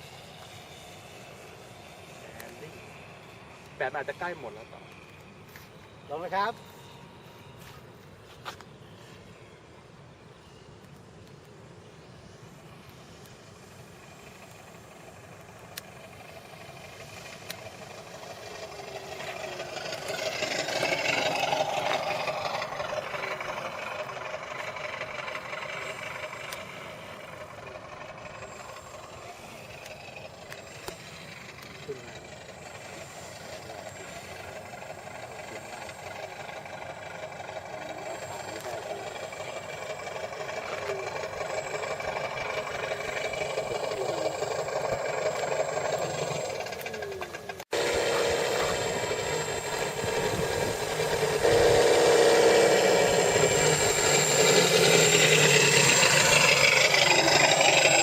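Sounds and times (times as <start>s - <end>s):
model plane engine sound: 0.0s - 58.0s
thin high whine: 0.0s - 58.0s.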